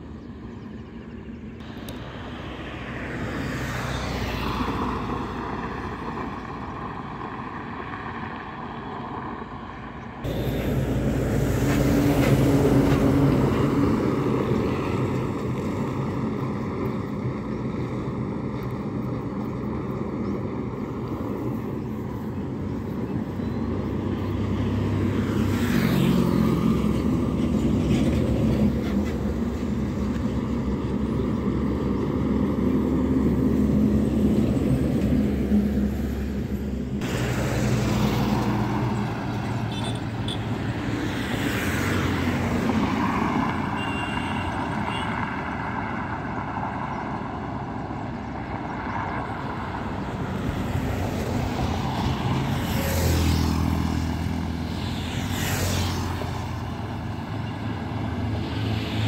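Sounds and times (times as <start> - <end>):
highway traffic passing: 0.0 - 59.0
large vehicle engine drone: 0.0 - 59.0.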